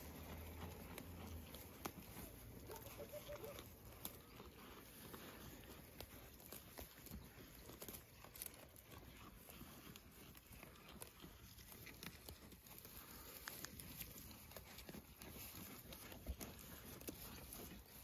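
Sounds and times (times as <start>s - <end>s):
goats chewing grass: 0.0s - 18.0s.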